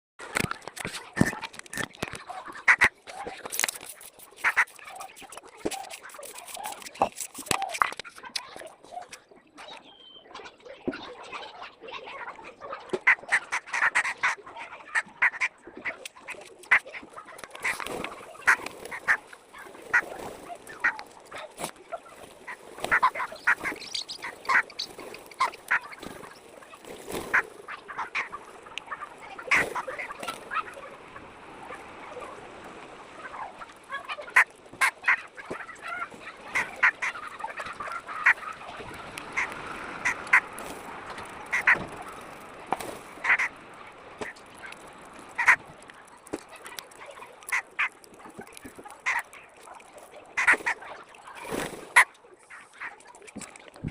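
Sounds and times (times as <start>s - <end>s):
flock of birds calling: 0.4s - 53.0s.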